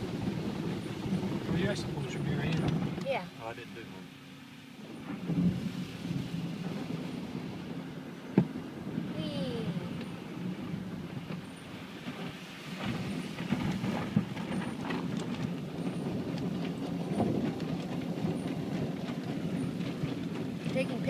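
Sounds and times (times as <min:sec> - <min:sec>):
car wash machinery rumble: 0:00.0 - 0:21.0.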